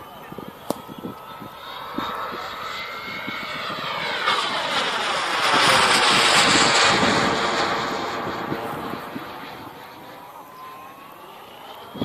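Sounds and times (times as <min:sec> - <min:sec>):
jet exhaust roar: 0:00.0 - 0:12.0
jet turbine whine: 0:00.0 - 0:12.0.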